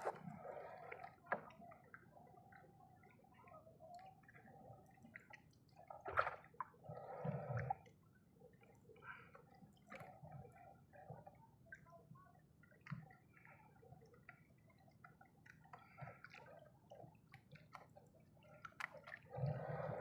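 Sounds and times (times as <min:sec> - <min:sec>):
water dripping and sloshing: 0:00.0 - 0:20.0.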